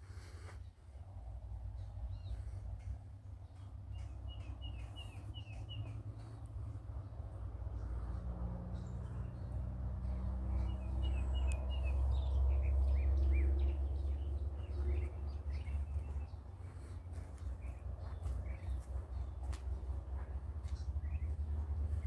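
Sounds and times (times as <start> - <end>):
small birds chirping: 0.2 - 22.0
low rumble: 1.0 - 22.0.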